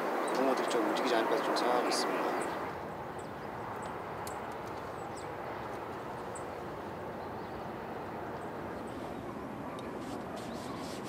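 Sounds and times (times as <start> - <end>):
constant even hiss: 0.0 - 11.0.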